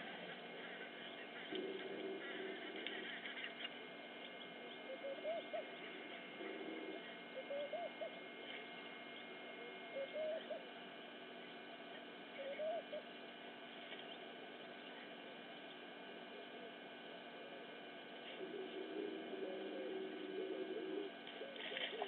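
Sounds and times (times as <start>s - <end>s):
bird hooting: 0.0s - 10.8s, 12.3s - 13.2s, 14.0s - 22.0s.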